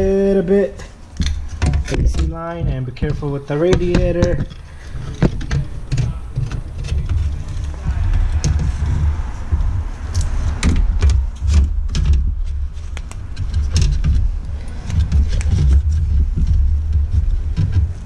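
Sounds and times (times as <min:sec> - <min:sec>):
steady low rumble: 0:00.0 - 0:18.0
plastic parts knocking and scraping: 0:00.8 - 0:18.0.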